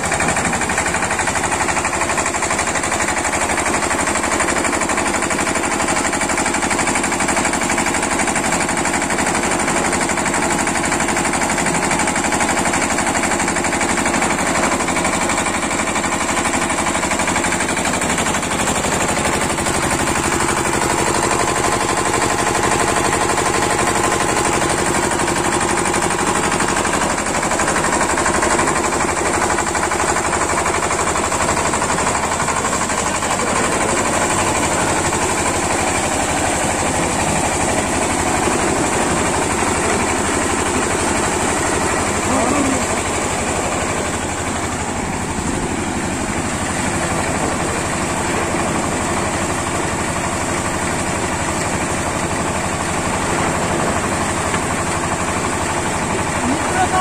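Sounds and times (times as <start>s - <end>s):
washing machine mechanical rattle: 0.0s - 49.3s.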